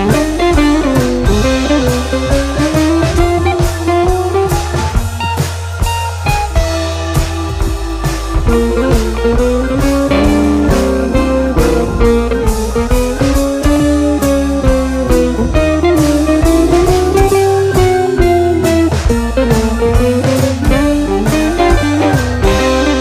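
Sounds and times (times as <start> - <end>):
sliding lead melody: 0.0 - 23.0
steady drum beat: 0.0 - 23.0.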